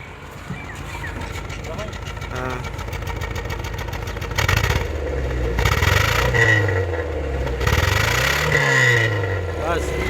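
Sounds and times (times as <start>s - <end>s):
car engine revving and misfiring: 1.0s - 10.0s.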